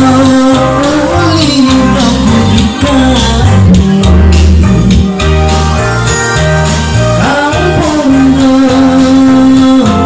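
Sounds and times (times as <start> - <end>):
man singing into microphone: 0.0 - 5.3, 7.2 - 10.0
backing track with bass and guitar: 0.0 - 10.0.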